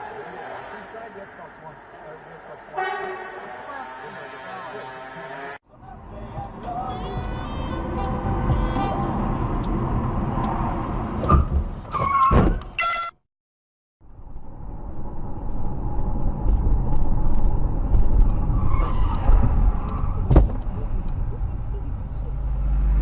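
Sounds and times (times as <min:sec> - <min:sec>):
car road and engine noise: 0:00.0 - 0:12.6, 0:14.0 - 0:23.0.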